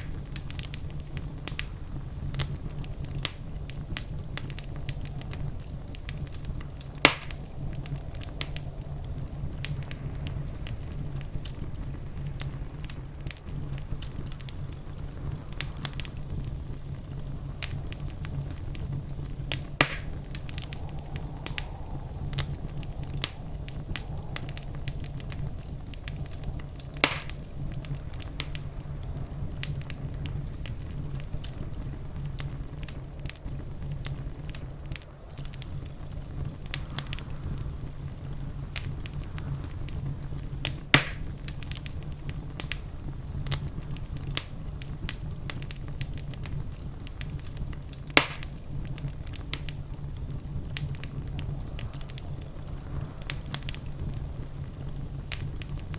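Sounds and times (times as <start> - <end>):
fireplace fire crackling: 0.0 - 55.9
loud fire pops: 0.0 - 55.9
low rumble: 0.0 - 55.9.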